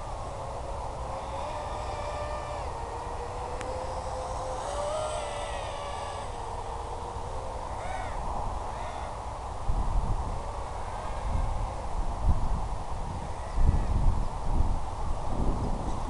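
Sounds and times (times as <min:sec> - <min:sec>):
quadcopter motors whining: 0:00.0 - 0:16.0
wind buffeting microphone: 0:00.0 - 0:16.0.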